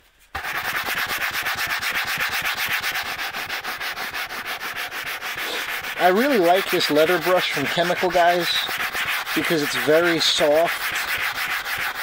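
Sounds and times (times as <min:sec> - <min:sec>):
brush scrubbing leather: 0:00.3 - 0:12.0.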